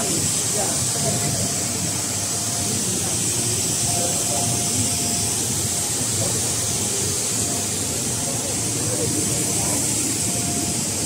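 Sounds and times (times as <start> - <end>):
constant high hiss: 0.0 - 11.0
faint machine whine: 0.0 - 11.0.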